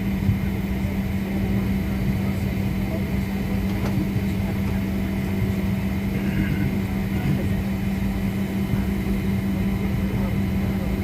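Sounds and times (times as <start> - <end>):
aircraft machinery low hum: 0.0 - 11.0.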